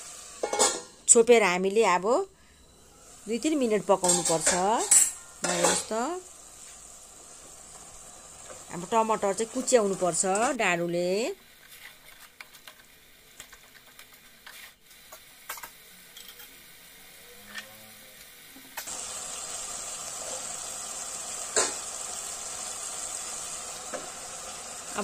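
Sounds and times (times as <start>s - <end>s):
masala sizzling in oil: 0.0s - 1.4s, 2.9s - 25.0s.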